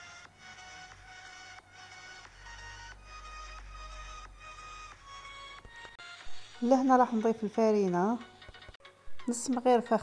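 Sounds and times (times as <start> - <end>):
soft slow background music: 0.0 - 10.0.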